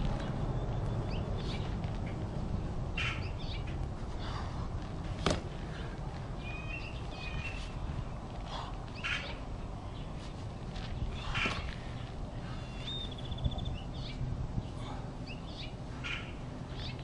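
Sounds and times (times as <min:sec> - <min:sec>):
birds chirping: 0:00.0 - 0:04.5, 0:05.6 - 0:17.0
steady low rumble: 0:00.0 - 0:17.0.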